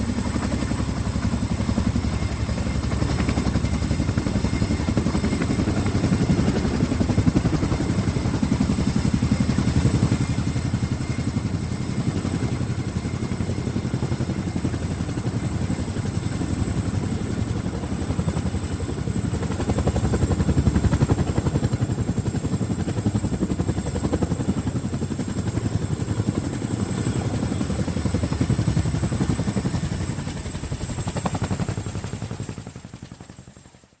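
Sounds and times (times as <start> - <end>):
helicopter rotor chop: 0.0 - 33.9.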